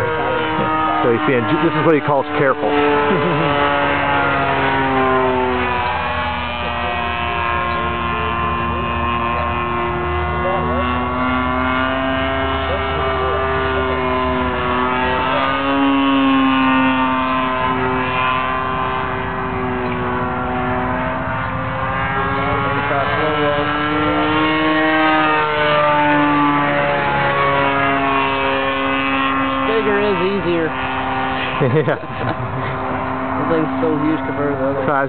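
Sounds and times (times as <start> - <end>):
model airplane engine running: 0.0 - 35.0.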